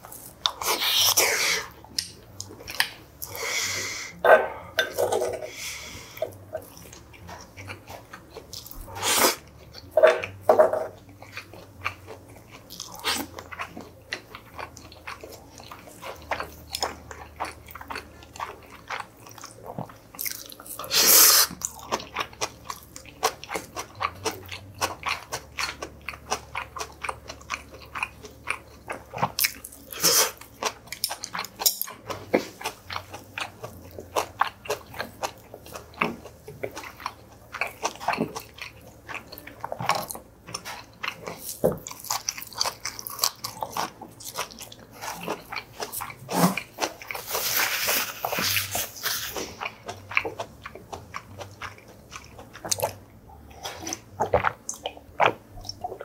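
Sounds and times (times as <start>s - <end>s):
person chewing crunchy vegetables: 0.0s - 56.0s.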